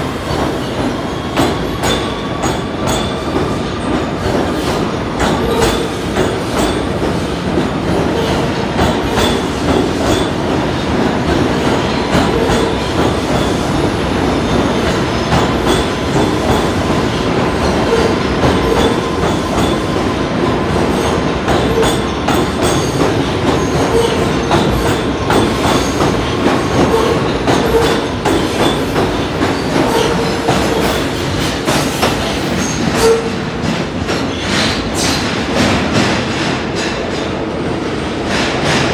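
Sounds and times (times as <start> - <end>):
subway train rumble: 0.0 - 38.9.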